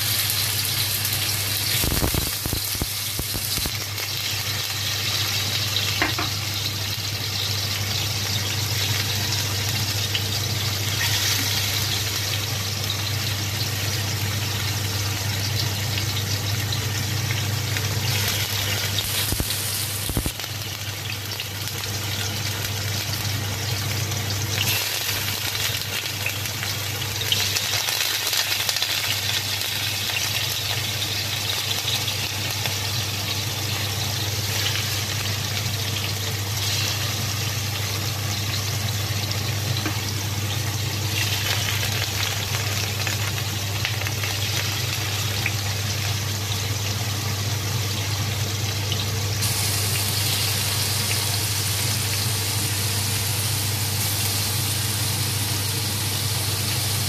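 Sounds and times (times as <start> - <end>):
tofu sizzling in oil: 0.0 - 57.0.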